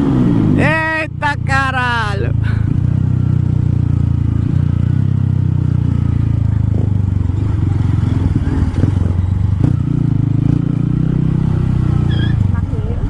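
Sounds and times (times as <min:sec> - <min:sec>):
single-cylinder motorcycle engine running: 0:00.0 - 0:13.0.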